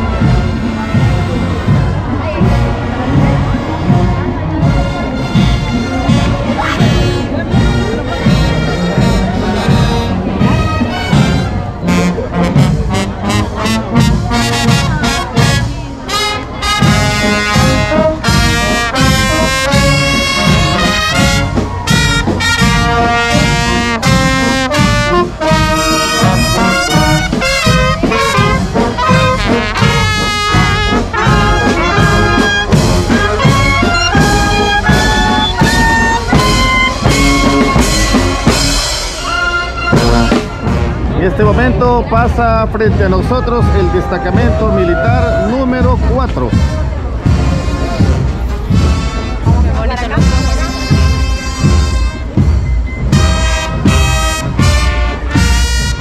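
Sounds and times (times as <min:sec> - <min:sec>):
steady drumming: 0:00.0 - 0:56.0
trumpets and trombones playing: 0:00.0 - 0:56.0.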